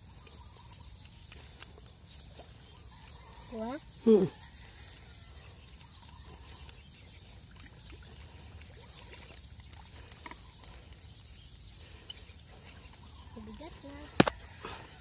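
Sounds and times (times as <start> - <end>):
faint ticks: 0.1 - 3.8, 4.7 - 14.8.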